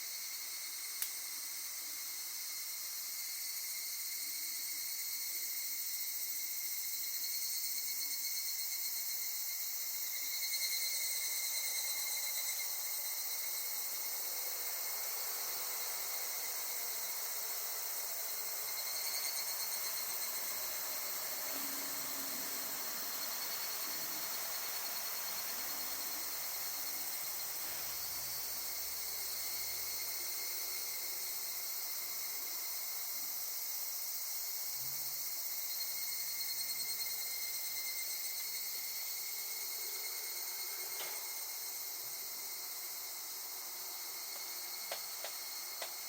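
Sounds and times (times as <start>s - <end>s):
cicadas chorus ringing: 0.0s - 46.0s.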